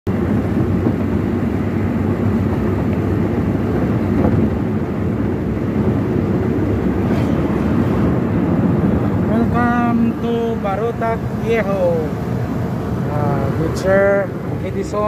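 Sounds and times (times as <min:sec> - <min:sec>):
car engine and tyre hum: 0:00.1 - 0:15.0.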